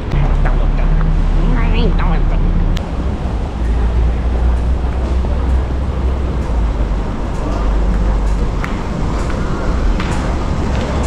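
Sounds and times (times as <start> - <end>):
train rumble and hiss: 0.0 - 11.0.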